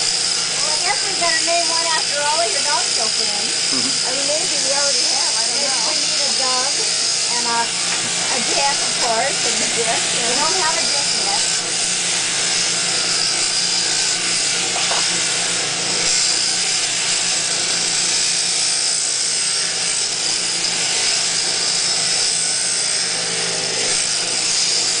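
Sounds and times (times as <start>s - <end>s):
sheep shears cutting fleece: 0.0s - 25.0s.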